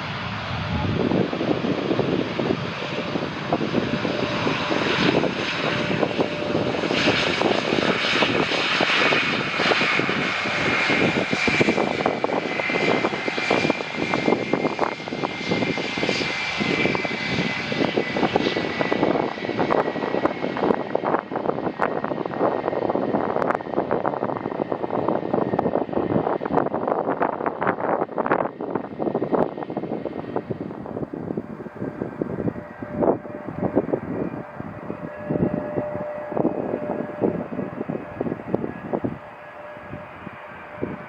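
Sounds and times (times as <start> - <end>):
jet airliner passing overhead: 0.0 - 41.0.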